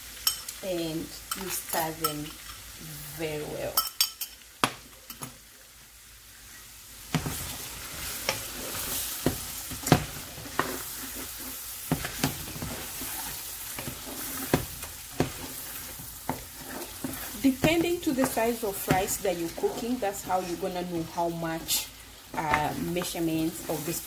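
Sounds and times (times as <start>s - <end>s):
paste sizzling in a pot: 0.0s - 24.0s.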